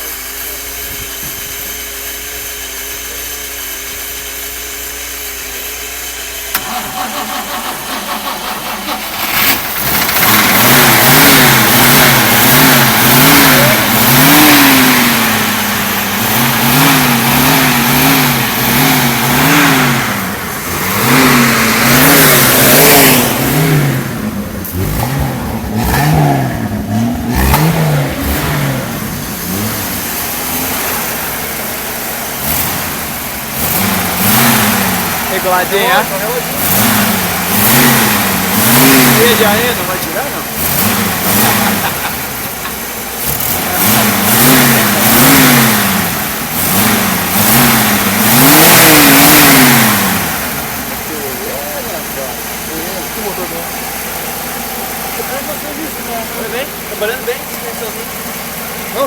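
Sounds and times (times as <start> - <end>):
car engine running and revving: 0.0 - 59.0
engine cranking whine: 0.0 - 59.0.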